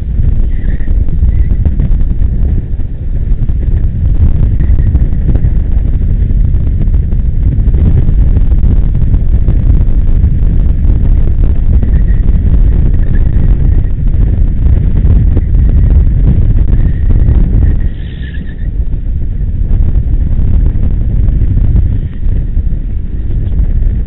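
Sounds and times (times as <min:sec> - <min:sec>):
electric go-kart rumble: 0:00.0 - 0:24.0
wind buffeting microphone: 0:00.0 - 0:24.0.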